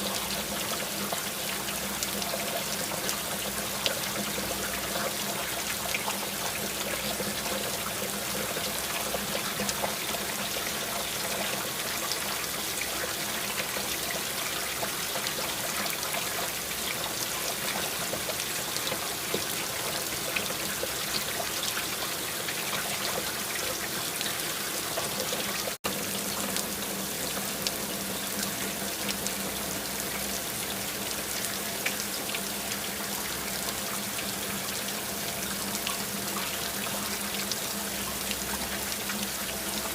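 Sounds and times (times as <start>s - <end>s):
steady rain: 0.0s - 39.9s
trickling running water: 0.0s - 39.9s.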